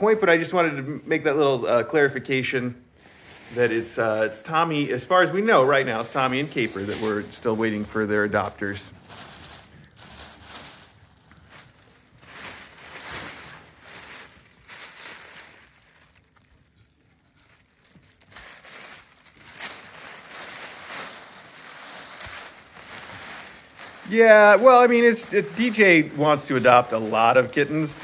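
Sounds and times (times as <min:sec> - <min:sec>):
tissue paper crinkling and rustling: 0:03.0 - 0:28.0.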